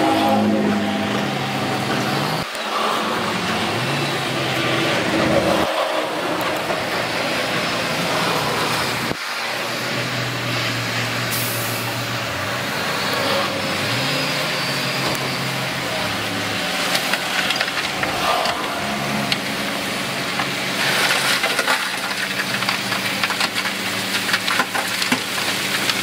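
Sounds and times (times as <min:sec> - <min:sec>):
diesel machinery engines: 0:00.0 - 0:26.0.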